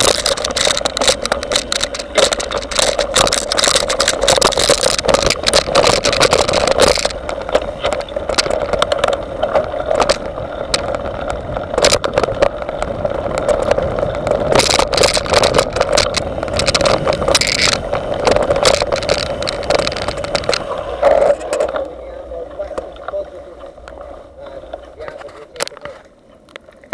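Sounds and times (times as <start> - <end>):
bike knocking and rattling: 0.0 - 26.9
bike tyres rolling on dirt: 0.0 - 26.9.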